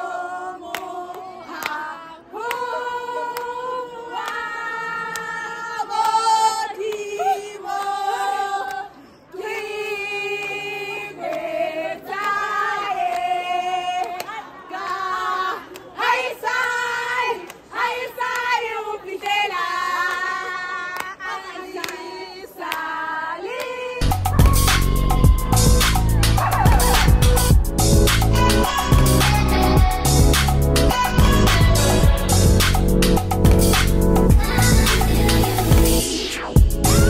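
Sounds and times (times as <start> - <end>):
women singing together: 0.0 - 36.2.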